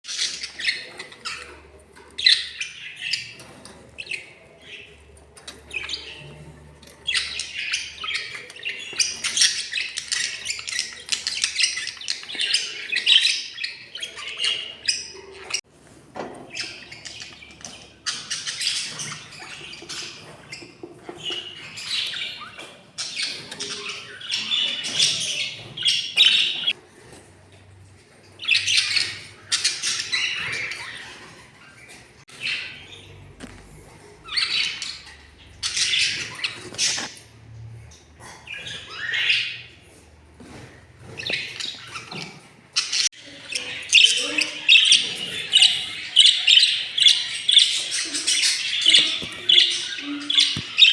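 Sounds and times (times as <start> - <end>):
budgerigars chirping: 0.1 - 15.6, 16.5 - 26.8, 28.4 - 33.2, 34.2 - 37.2, 38.4 - 50.9.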